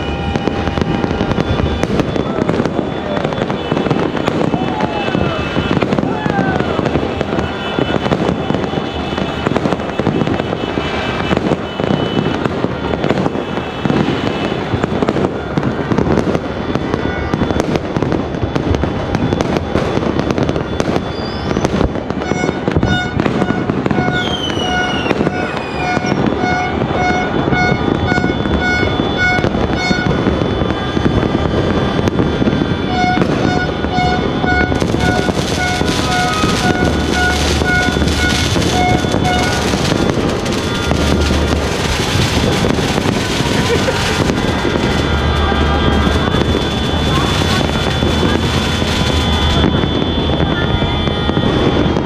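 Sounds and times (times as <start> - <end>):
fireworks crackling and popping: 0.0 - 52.0
whistling fireworks: 0.0 - 52.0.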